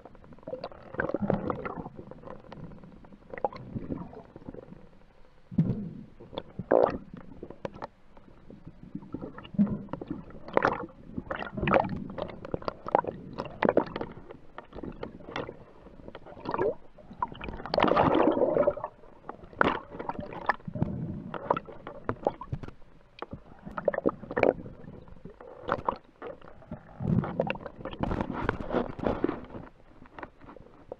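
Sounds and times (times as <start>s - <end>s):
underwater gurgling and sloshing: 0.0s - 30.9s.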